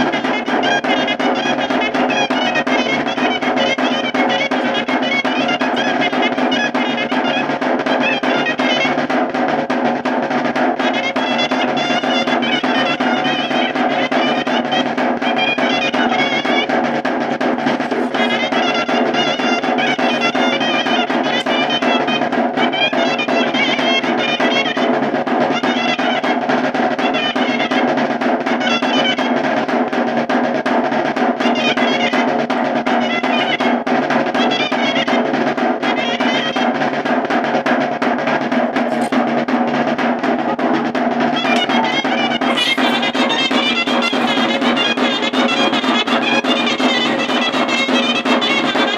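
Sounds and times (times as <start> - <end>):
shawm playing lively melody: 0.0 - 48.9
snare drum roll: 0.0 - 48.9.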